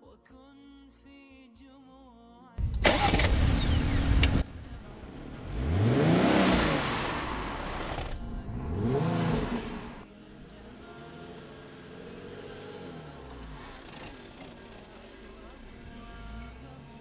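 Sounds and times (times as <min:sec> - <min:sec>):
car engine revving: 0:02.8 - 0:17.0.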